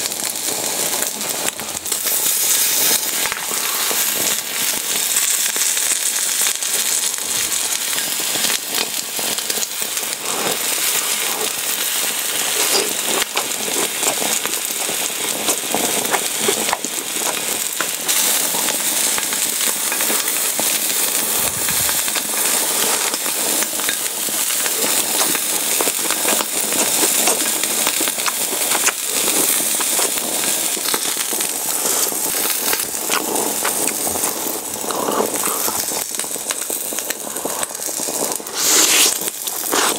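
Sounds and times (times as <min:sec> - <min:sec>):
meat sizzling on grill pan: 0:00.0 - 0:39.9.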